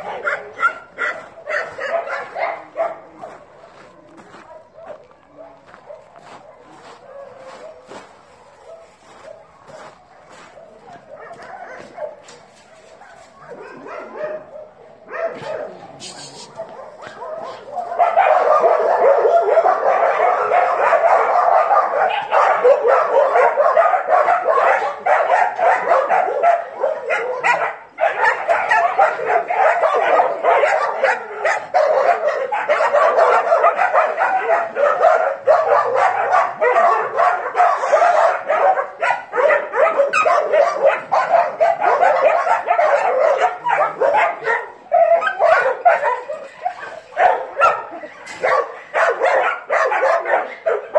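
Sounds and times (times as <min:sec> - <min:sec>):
many dogs barking: 0:00.0 - 0:50.9.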